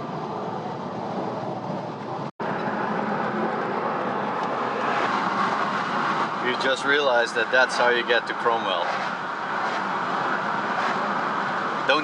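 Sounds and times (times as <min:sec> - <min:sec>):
car driving at speed: 0:00.0 - 0:12.0.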